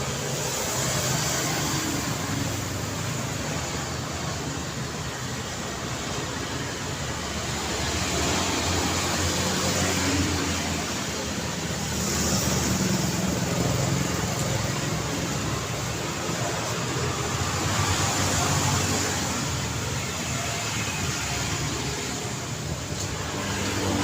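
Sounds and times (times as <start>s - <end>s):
cars and motorbikes passing: 0.0s - 24.0s.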